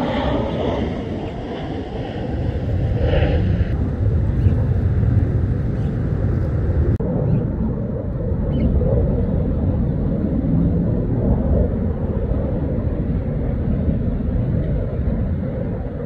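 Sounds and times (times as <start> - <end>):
distant jet engines rumbling: 0.0 - 16.0.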